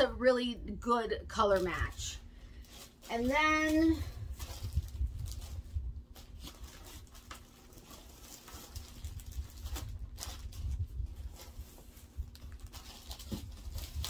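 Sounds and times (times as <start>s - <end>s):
yarn rustling: 1.3s - 14.0s.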